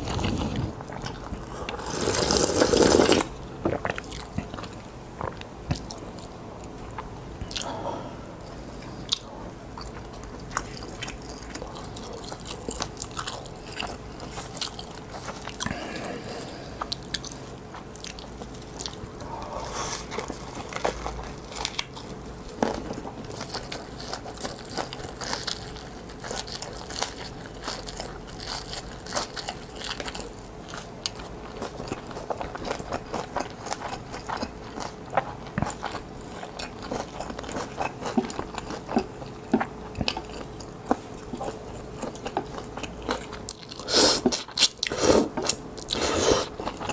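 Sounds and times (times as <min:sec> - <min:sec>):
chewing food: 0:00.0 - 0:07.8, 0:08.8 - 0:46.9
faint steady hum: 0:00.0 - 0:46.9.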